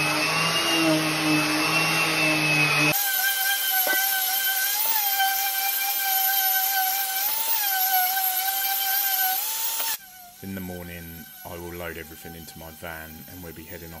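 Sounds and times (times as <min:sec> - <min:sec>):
orbital sander running on wood: 0:00.0 - 0:14.0.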